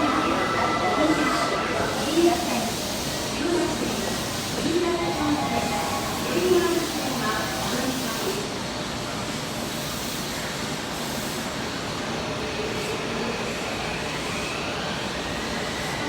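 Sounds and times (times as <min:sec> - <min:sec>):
subway train running rumble: 0:00.0 - 0:16.0.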